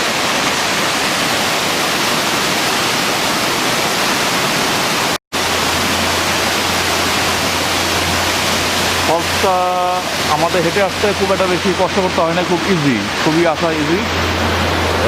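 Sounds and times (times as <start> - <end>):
waterfall roaring over rock: 0.0 - 15.0.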